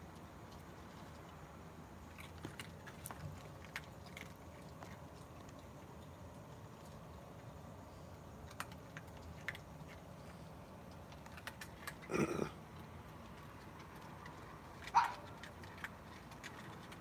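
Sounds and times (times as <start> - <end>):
raccoons crunching kibble: 0.0 - 17.0.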